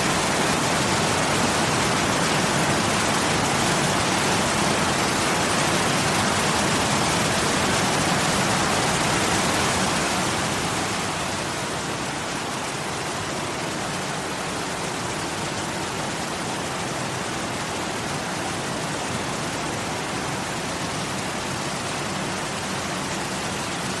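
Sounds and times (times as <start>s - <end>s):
waterfall water rushing: 0.0s - 24.0s.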